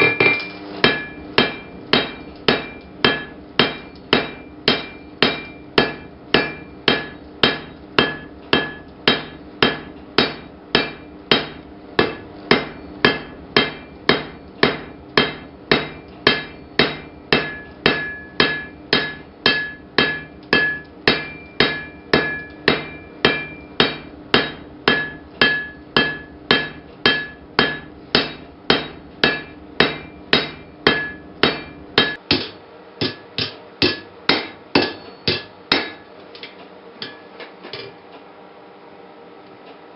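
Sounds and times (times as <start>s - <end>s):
hammer ringing on anvil: 0.0s - 36.1s, 37.0s - 38.0s.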